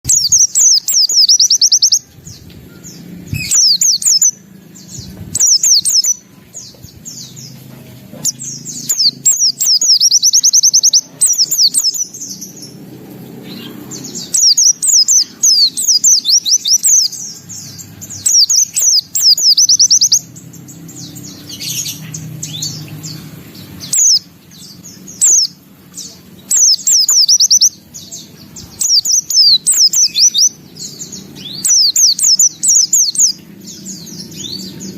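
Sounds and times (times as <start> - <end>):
bird singing high trills: 0.0 - 34.9.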